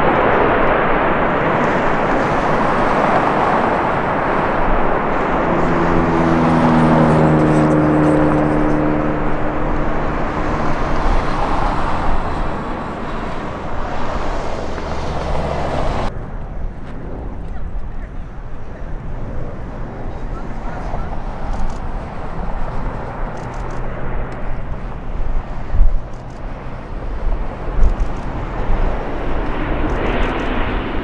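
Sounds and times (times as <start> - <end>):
steady droning notes: 0.0 - 30.2
jet engine roaring: 0.0 - 31.0.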